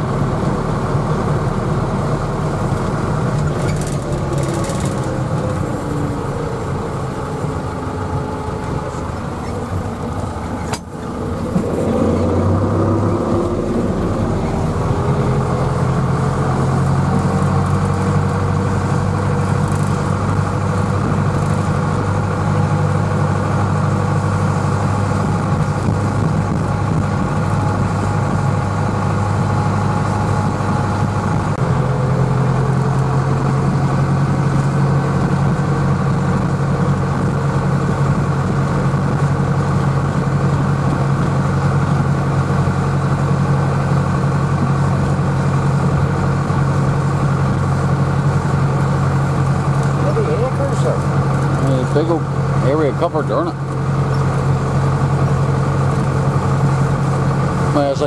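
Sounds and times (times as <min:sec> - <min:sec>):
rising whine: 0:00.0 - 0:58.0
tractor engine running: 0:00.0 - 0:58.0.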